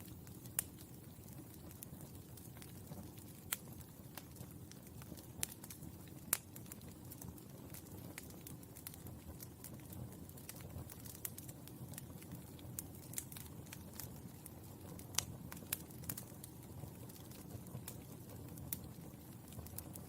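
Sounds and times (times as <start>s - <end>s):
burning charcoal crackling: 0.0s - 20.0s.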